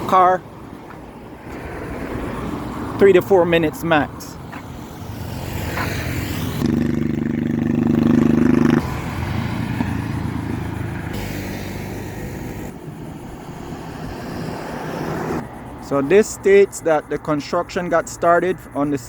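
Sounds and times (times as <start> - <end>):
vehicle passing close by: 0.0 - 16.4.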